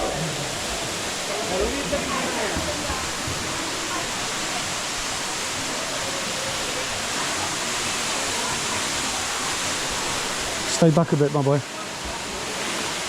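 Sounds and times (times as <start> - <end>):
waterfall pouring: 0.0 - 13.0.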